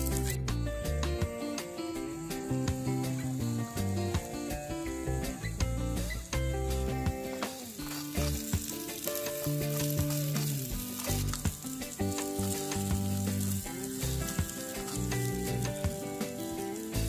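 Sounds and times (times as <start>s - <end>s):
background music: 0.0s - 17.0s
onions sizzling in oil: 0.0s - 17.0s.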